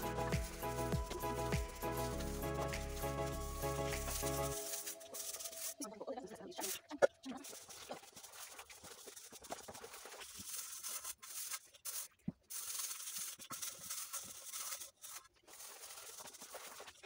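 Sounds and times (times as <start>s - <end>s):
scrubbing metal pot: 0.0s - 5.9s, 6.6s - 17.0s.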